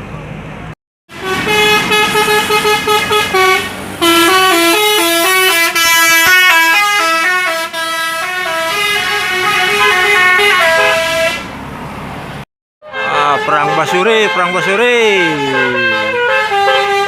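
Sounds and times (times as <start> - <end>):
musical air horn melody: 1.1 - 11.5, 12.8 - 17.0.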